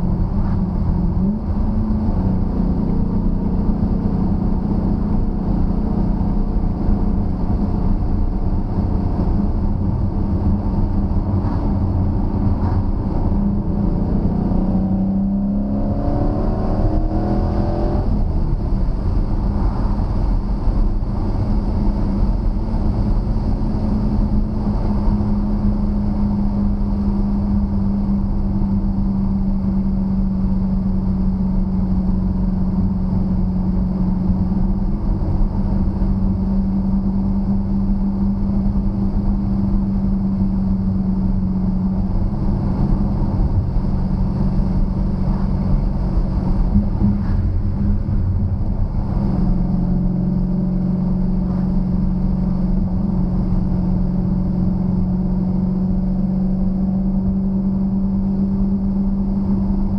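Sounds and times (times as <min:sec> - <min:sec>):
car engine running: 0:00.0 - 0:59.9
road noise: 0:00.0 - 0:59.9.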